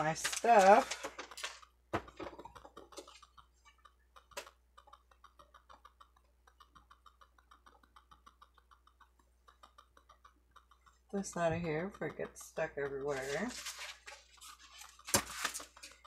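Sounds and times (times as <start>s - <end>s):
light ticks of craft items: 0.0s - 16.0s.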